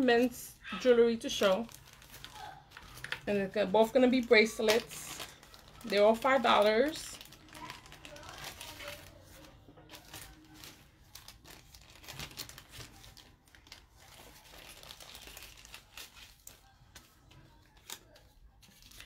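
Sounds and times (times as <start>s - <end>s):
plastic packaging crinkling: 0.7s - 19.0s.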